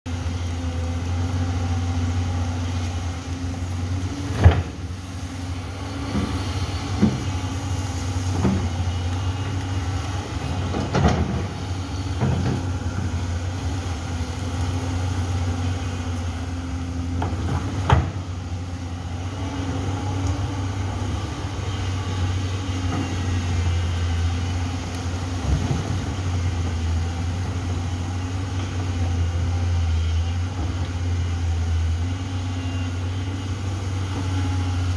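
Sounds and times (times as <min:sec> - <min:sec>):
diesel engine humming: 0:00.1 - 0:34.9.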